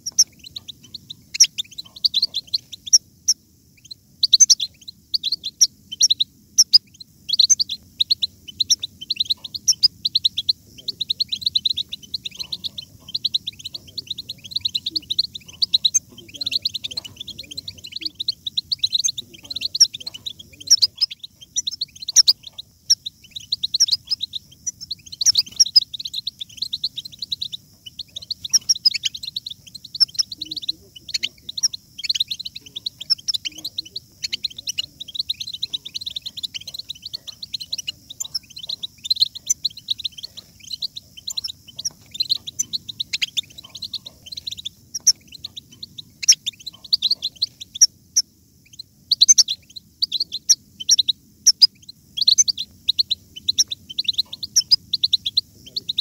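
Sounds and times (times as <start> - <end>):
finches twittering and singing: 0.0 - 56.0.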